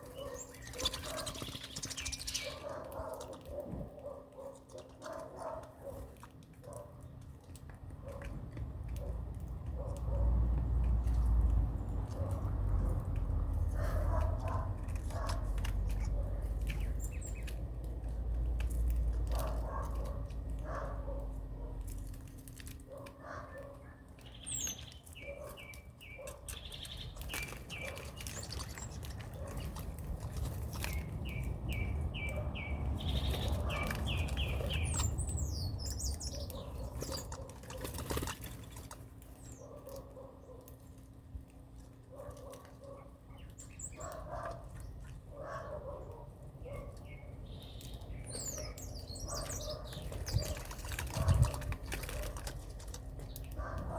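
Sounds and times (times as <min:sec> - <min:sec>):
birds chirping: 0:00.0 - 0:07.4, 0:10.9 - 0:41.0, 0:41.6 - 0:53.9.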